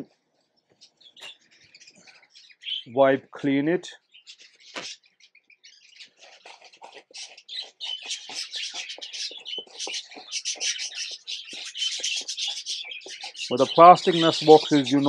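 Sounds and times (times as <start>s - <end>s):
budgerigars chirping: 0.7s - 3.0s, 3.9s - 15.0s.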